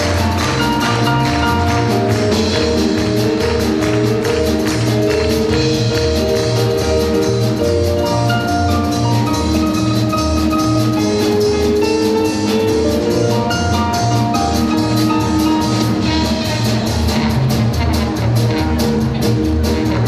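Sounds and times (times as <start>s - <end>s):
upbeat instrumental music: 0.0s - 20.0s.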